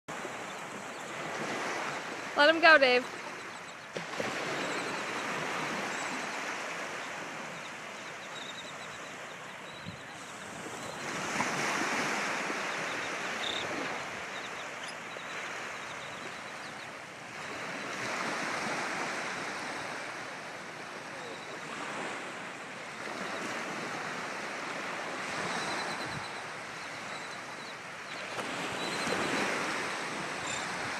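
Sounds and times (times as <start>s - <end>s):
ocean surf breaking: 0.1s - 8.3s, 9.0s - 26.6s.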